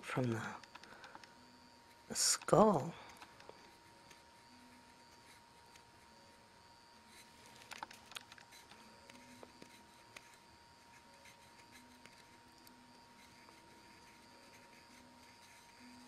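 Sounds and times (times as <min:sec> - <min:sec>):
faint steady whine: 0:00.0 - 0:16.0
soft ticks and scratches: 0:00.2 - 0:16.0.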